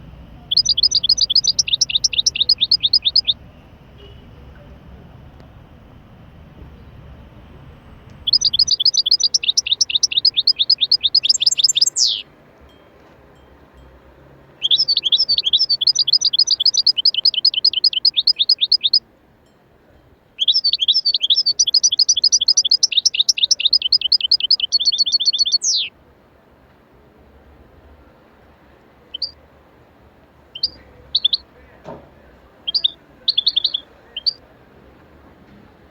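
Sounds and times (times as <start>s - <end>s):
songbird singing: 0.0s - 26.0s, 28.0s - 29.6s, 30.3s - 35.9s.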